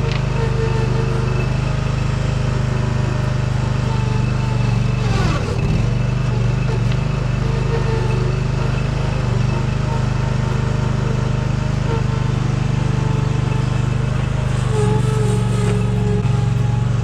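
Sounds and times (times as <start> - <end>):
small digger engine running: 0.0 - 17.0.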